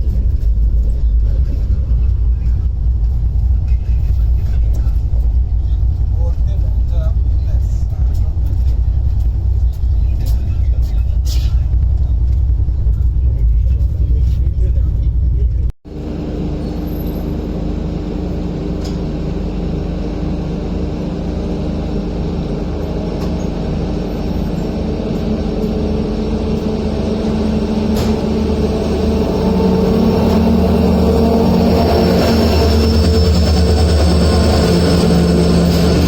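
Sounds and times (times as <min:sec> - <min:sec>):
passenger train rumble: 0:00.0 - 0:36.0.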